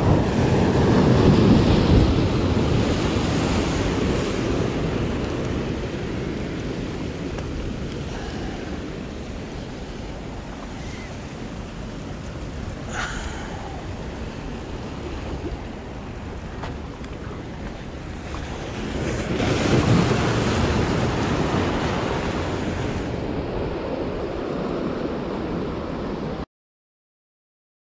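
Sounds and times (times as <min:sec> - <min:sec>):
surf washing against rocks: 0:00.0 - 0:26.4
wind buffeting microphone: 0:00.0 - 0:26.4.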